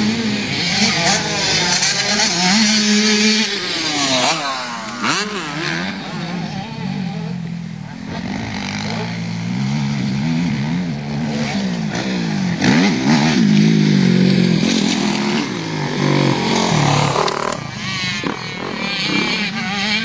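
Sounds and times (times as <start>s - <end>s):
higher-pitched bike engine: 0.0s - 20.0s
motocross bike engines revving: 0.0s - 20.0s.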